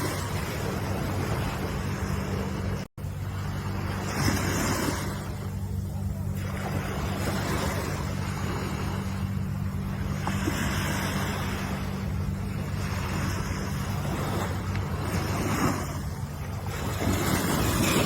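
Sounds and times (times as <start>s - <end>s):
low surf rumble: 0.0s - 18.0s
waves washing in and back: 0.0s - 18.0s.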